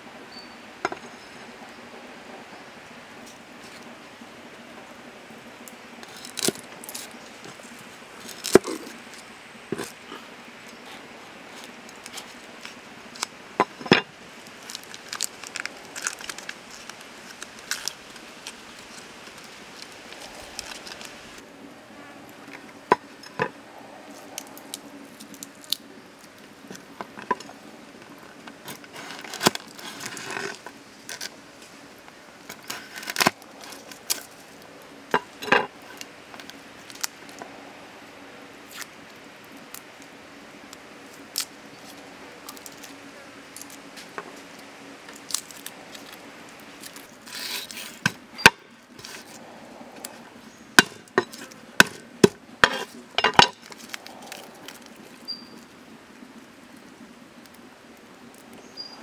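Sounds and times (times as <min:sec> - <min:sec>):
papery skins crackling: 0:05.7 - 0:21.4, 0:22.3 - 0:37.6, 0:38.6 - 0:58.6.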